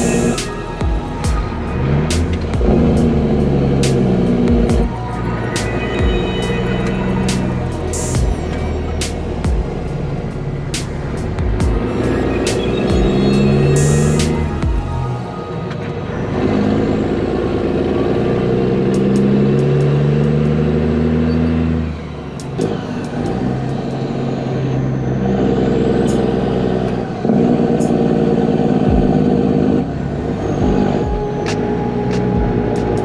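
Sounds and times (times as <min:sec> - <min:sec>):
truck diesel engine: 0:00.0 - 0:33.0.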